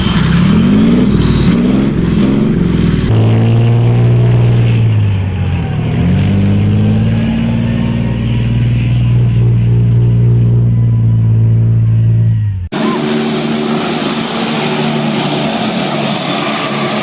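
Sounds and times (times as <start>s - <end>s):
heavy engine revving: 0.0s - 17.0s.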